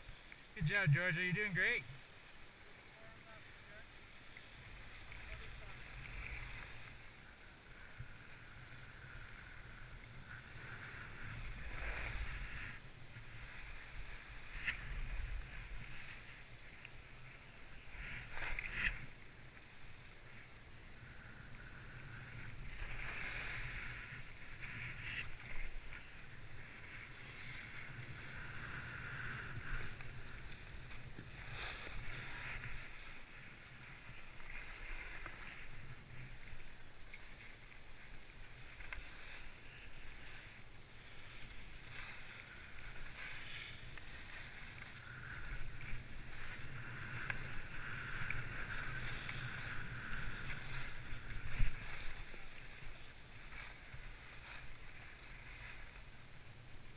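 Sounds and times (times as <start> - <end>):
skis scraping over snow: 10.3 - 20.5, 21.2 - 56.9.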